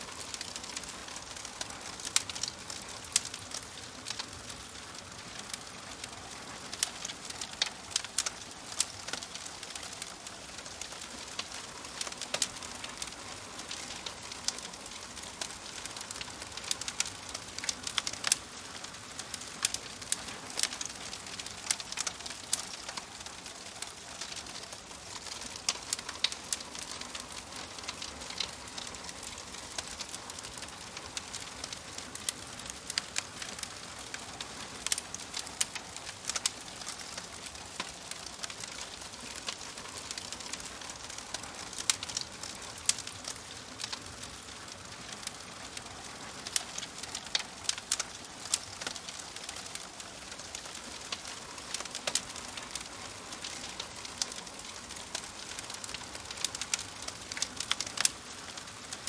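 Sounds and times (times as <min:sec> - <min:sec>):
fire crackling in fireplace: 0:00.0 - 0:59.0.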